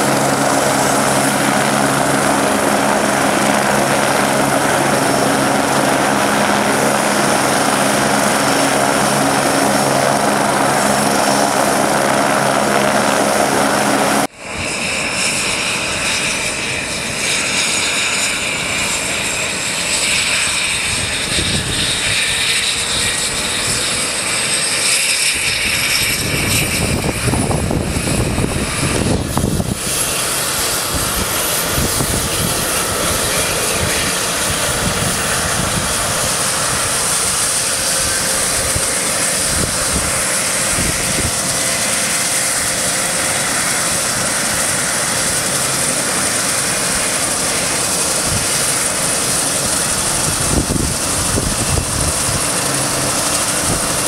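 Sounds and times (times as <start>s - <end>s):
helicopter rotor noise: 0.0s - 54.0s
helicopter turbine whine: 0.0s - 54.0s.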